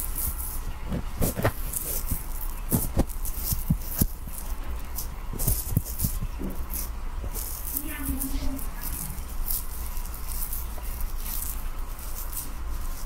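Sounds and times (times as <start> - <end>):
cloth rustling: 0.0 - 13.0
fingertips tapping on towel: 0.9 - 13.0.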